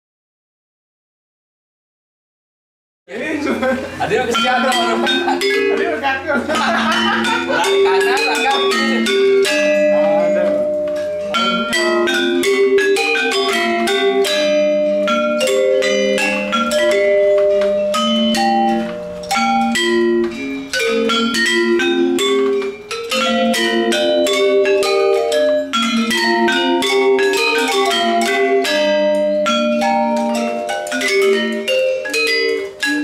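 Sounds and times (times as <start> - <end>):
metallophones playing fast notes: 3.1 - 33.0.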